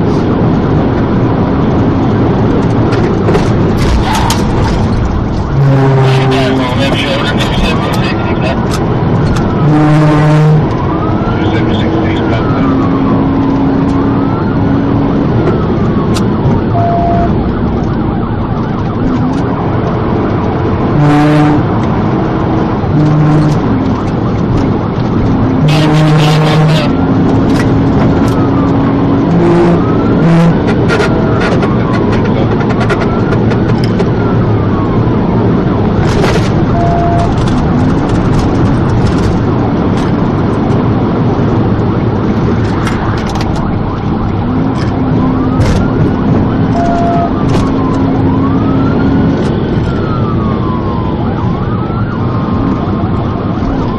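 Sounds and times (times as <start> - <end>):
engine and road noise: 0.0 - 53.9
police siren wailing: 0.0 - 53.9.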